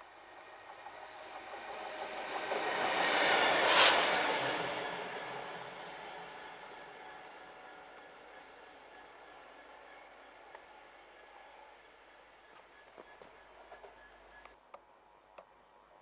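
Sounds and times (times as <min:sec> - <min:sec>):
diesel locomotive passing: 0:00.0 - 0:14.5.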